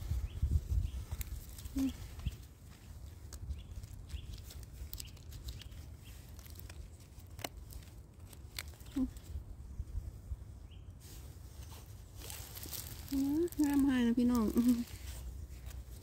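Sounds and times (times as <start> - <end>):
mushrooms rustling and snapping: 0.0 - 9.5, 11.2 - 16.0.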